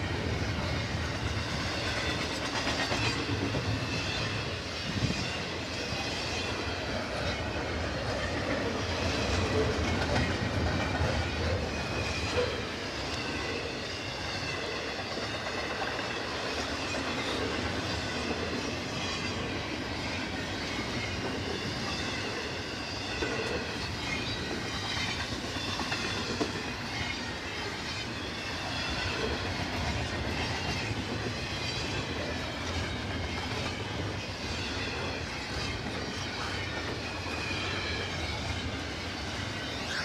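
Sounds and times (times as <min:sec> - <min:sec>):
train cars rumbling past: 0:00.0 - 0:40.0.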